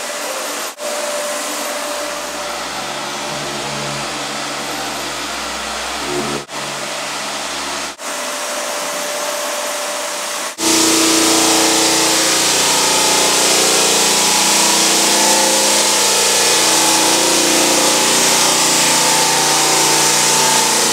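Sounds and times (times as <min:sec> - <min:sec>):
floor sander motor whooshing: 0:00.0 - 0:20.9.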